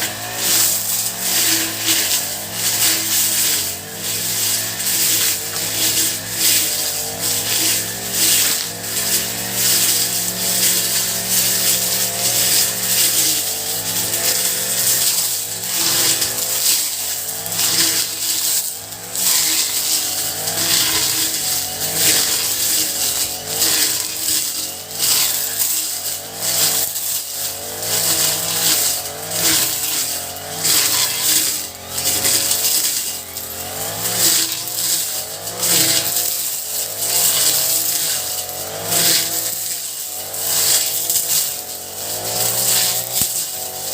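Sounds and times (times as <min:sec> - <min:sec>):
brush cutter engine running: 0:00.0 - 0:43.9.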